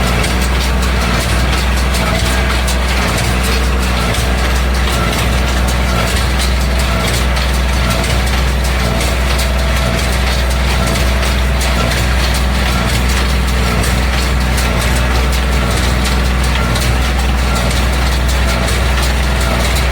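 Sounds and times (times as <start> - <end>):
baler clattering clicks: 0.0 - 19.9
tractor diesel engine running: 0.0 - 19.9.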